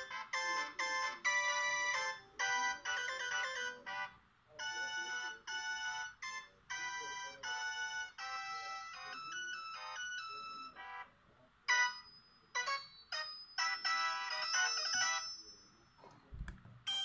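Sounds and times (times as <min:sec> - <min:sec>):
phone ringtone melody: 0:00.0 - 0:11.1, 0:11.7 - 0:16.0.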